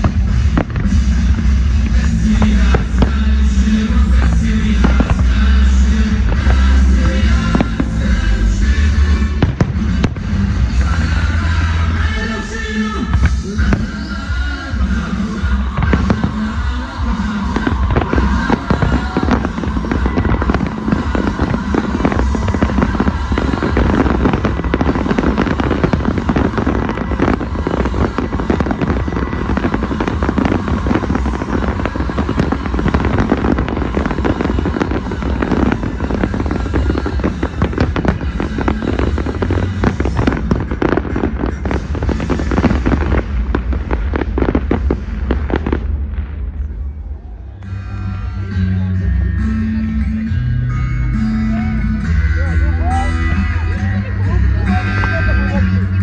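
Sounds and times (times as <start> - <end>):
fireworks bangs and crackles: 0.0 - 50.3, 51.9 - 56.0
music playing: 0.0 - 56.0.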